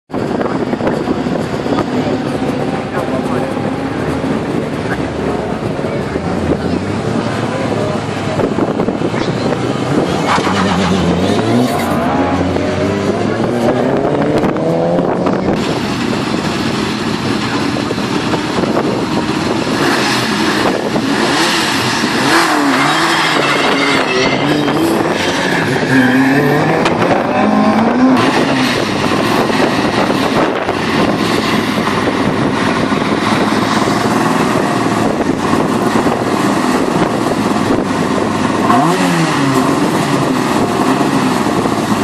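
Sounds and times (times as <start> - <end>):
car engines rumbling: 0.1 - 42.0.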